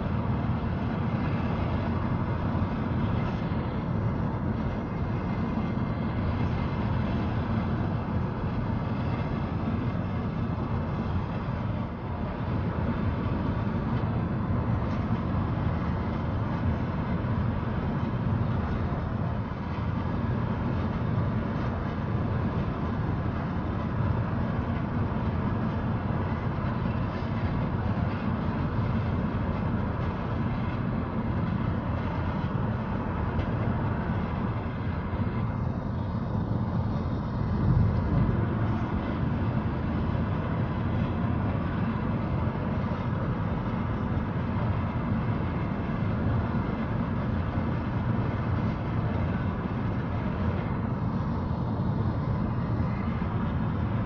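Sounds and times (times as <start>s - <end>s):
road and wind noise inside car: 0.0s - 54.0s.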